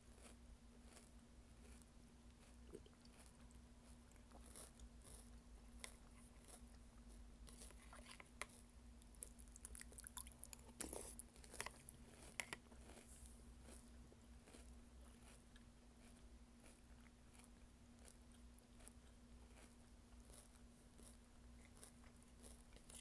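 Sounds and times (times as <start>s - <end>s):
crunchy chewing: 0.0s - 23.0s.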